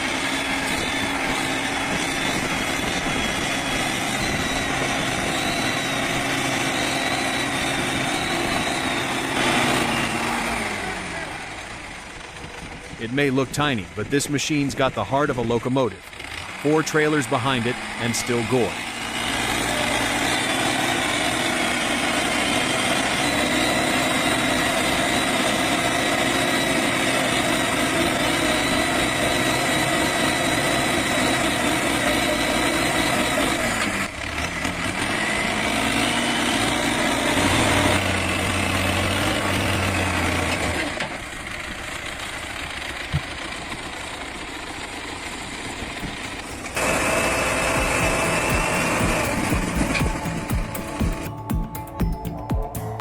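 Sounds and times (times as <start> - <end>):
small engine droning under load: 0.0 - 53.0.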